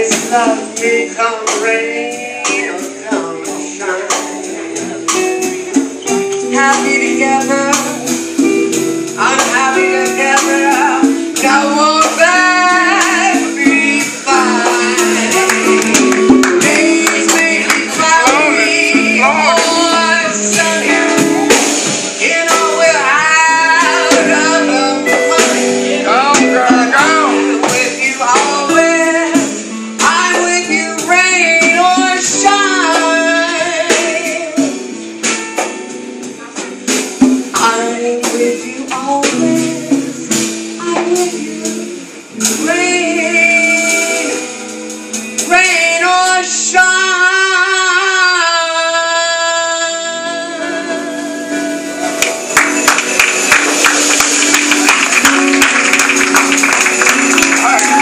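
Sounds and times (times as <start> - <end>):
woman singing with vibrato: 0.0 - 35.4, 36.3 - 58.0
jazz combo playing ballad: 0.0 - 58.0.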